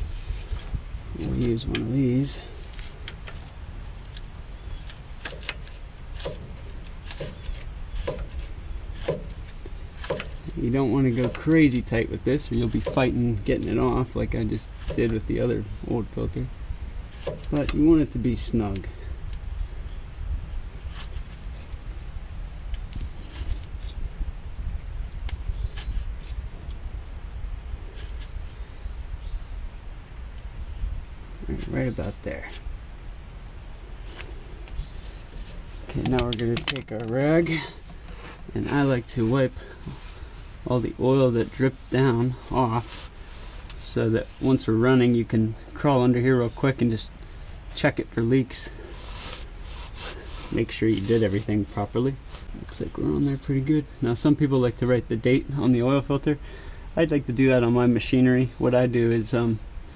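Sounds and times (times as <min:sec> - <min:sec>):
high insect buzz: 0:00.0 - 0:59.9.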